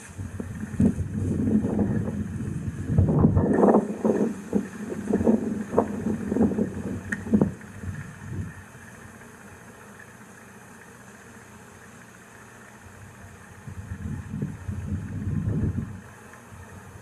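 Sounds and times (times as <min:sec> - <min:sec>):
low hiss of wind: 0:00.0 - 0:17.0.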